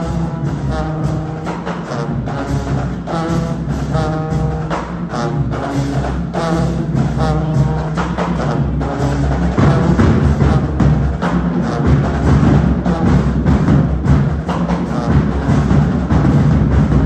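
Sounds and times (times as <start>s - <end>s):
repeating horn figure: 0.0s - 13.8s
drum line: 0.0s - 17.0s
marching band playing: 0.0s - 17.0s.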